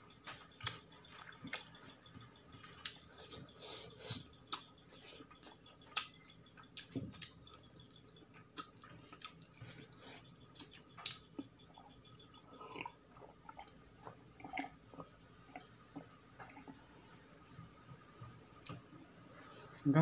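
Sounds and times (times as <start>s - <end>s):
person chewing food: 0.1s - 18.9s.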